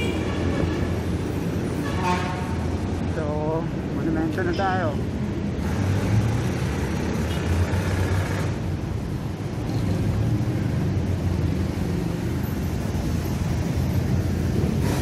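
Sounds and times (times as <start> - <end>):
car and bus engines rumbling: 0.0 - 15.0.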